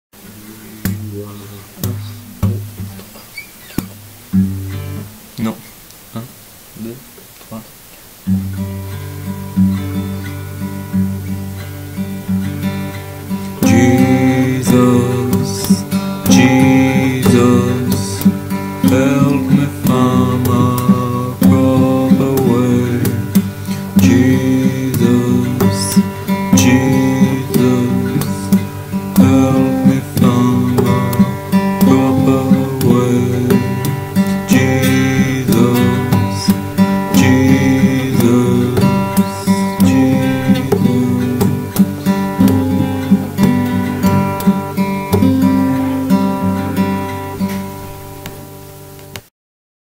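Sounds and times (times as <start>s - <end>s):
acoustic guitar strumming: 0.2s - 5.8s, 8.2s - 49.2s.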